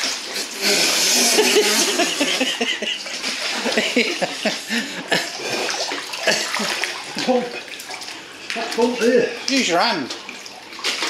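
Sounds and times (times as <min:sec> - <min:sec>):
water splashing and gurgling: 0:00.0 - 0:11.0.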